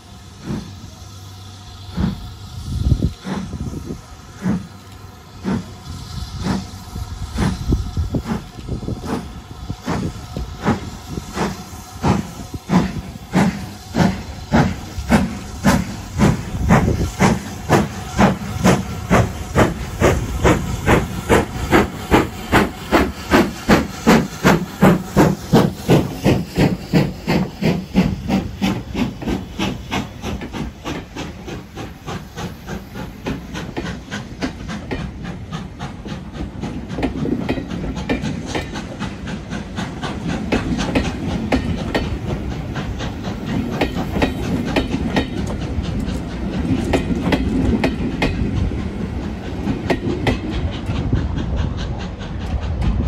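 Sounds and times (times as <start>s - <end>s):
steam locomotive chuffing: 0.0s - 53.0s
train wheels clicking over rail joints: 0.1s - 53.0s.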